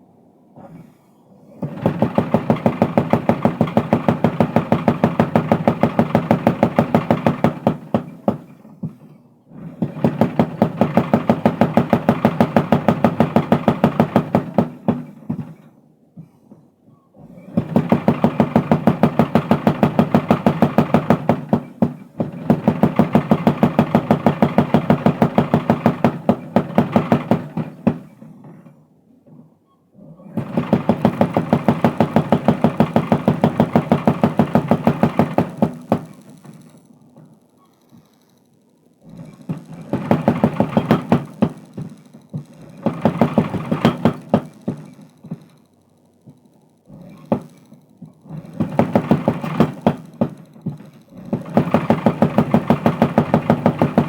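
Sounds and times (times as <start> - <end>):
power hammer pounding steel: 1.6 - 9.0, 9.6 - 15.7, 17.3 - 28.6, 30.3 - 37.3, 39.0 - 45.6, 46.9 - 54.0.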